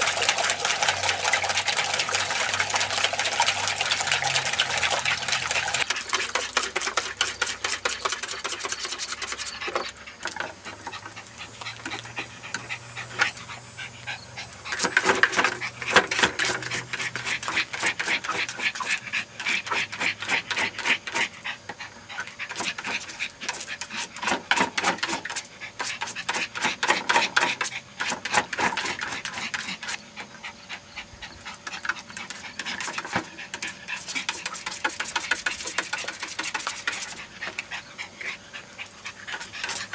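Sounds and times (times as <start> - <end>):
dog splashing in water bucket: 0.0 - 13.6, 14.4 - 21.6, 22.2 - 39.9
dog panting: 3.0 - 39.9.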